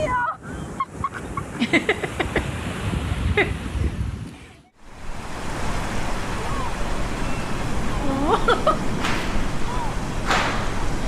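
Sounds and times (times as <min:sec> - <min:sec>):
surf: 0:00.0 - 0:11.0
wind: 0:00.0 - 0:11.0.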